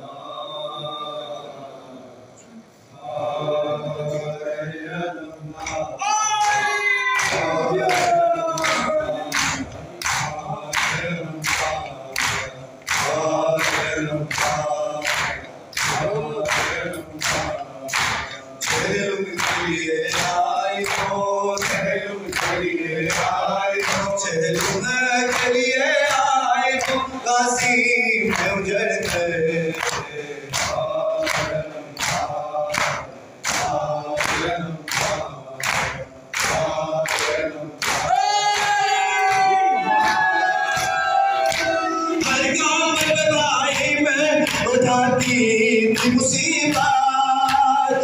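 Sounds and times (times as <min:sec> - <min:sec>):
lead reciter chanting: 0:00.0 - 0:48.0
men's chorus chanting: 0:00.0 - 0:48.0
rhythmic chest-beating slaps: 0:05.6 - 0:48.0.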